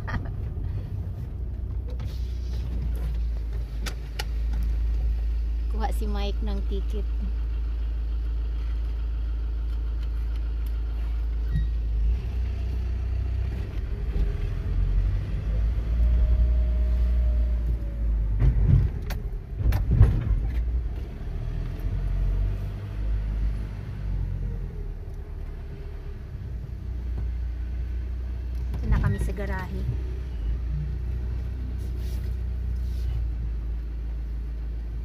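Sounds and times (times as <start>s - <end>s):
car cabin low rumble: 0.0s - 35.0s.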